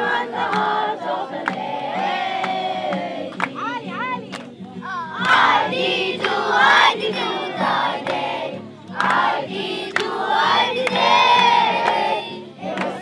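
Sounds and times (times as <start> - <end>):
children singing together: 0.0 - 3.5, 4.8 - 13.0.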